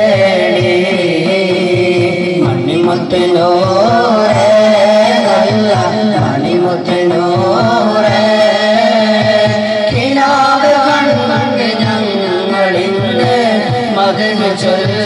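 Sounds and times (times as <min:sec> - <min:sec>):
low drum beat: 0:00.0 - 0:15.0
men singing through microphones: 0:00.0 - 0:15.0.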